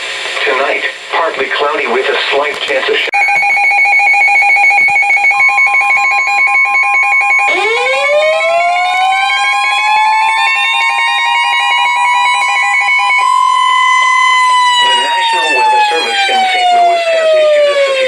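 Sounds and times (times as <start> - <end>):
pulsing two-pitch alarm beep: 3.2 - 18.0
siren winding up: 3.2 - 18.0
steady high tone: 3.2 - 18.0.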